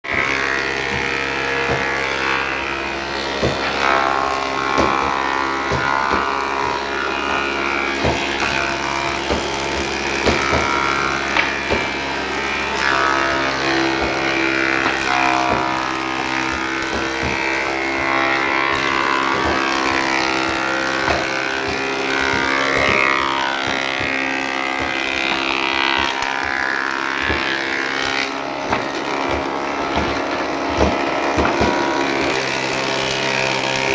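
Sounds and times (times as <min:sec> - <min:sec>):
sharp knocks: 0:00.1 - 0:33.8.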